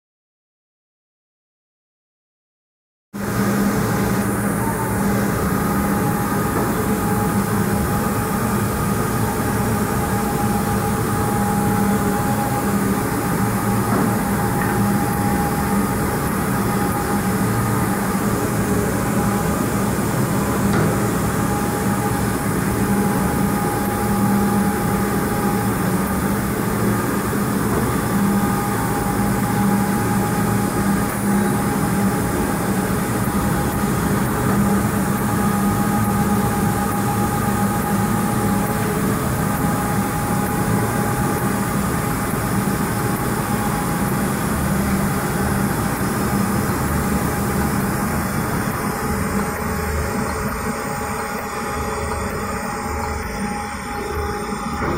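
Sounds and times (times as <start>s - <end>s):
high machine whine: 3.2s - 54.9s.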